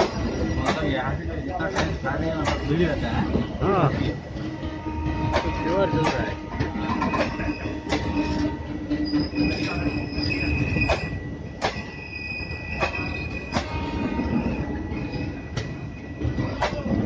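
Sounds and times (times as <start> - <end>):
high wheel squeal: 0.0 - 1.7, 4.8 - 17.0
wheels clacking over rail joints: 0.0 - 4.1, 5.2 - 17.0
train rumble: 0.0 - 17.0.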